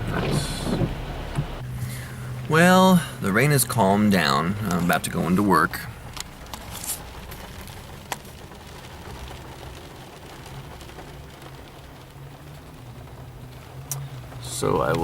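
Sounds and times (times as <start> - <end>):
light rain patter: 0.0 - 15.0
low traffic rumble: 0.0 - 15.0.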